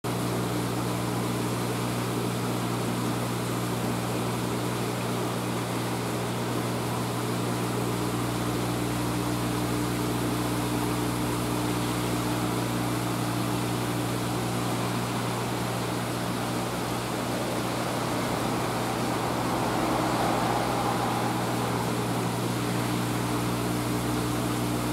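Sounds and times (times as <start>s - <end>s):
aquarium pump humming: 0.1s - 24.9s.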